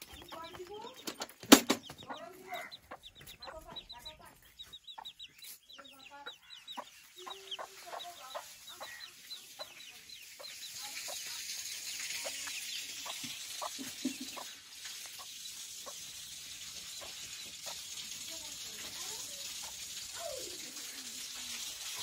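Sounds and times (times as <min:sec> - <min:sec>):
chick peeping: 0:00.0 - 0:22.0
hen clucking: 0:00.0 - 0:22.0.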